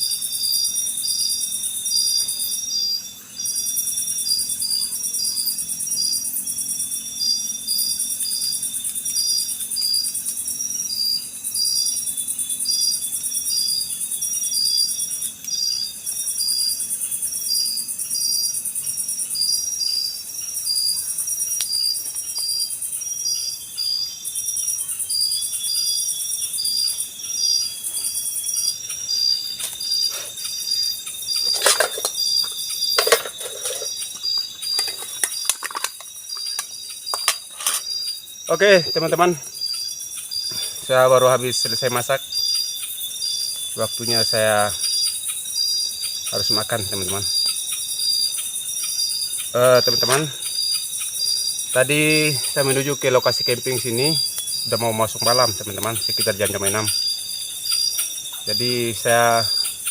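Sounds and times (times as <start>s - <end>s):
cricket-like chirping: 0.0s - 59.9s
insects buzzing: 0.0s - 59.9s.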